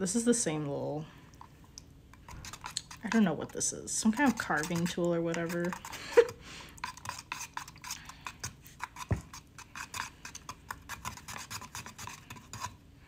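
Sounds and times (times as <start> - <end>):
tool scraping glaze in container: 2.1 - 12.8.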